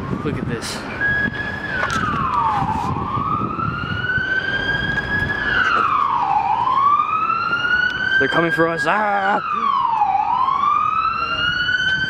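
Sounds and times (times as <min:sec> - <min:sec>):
siren wailing: 0:00.0 - 0:12.0
street traffic rumble: 0:00.0 - 0:12.0.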